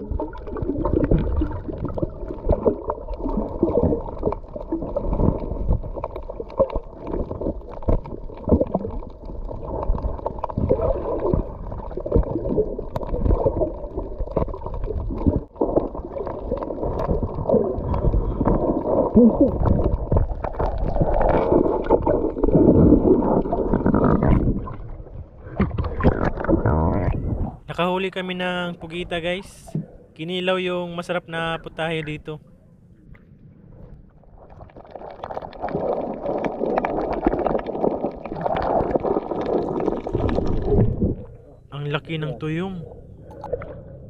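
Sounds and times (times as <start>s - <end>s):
muffled underwater rumbling: 0.0s - 27.8s, 31.6s - 44.0s.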